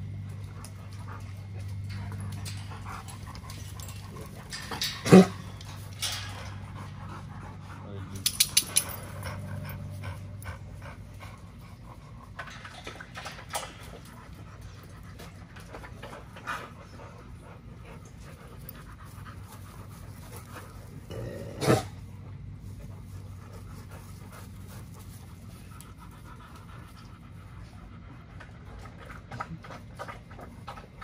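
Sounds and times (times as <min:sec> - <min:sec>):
dogs panting: 0:00.0 - 0:31.0.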